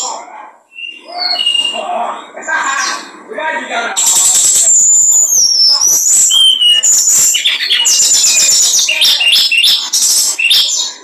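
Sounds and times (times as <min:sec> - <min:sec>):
songbird singing: 0:00.0 - 0:03.2, 0:04.0 - 0:11.0.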